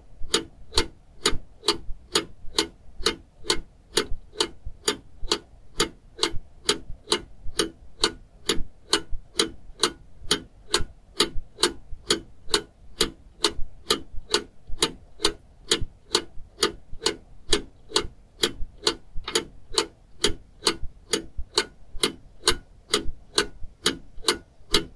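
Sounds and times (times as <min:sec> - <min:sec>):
mechanical ticking with hollow knock: 0:00.3 - 0:24.9.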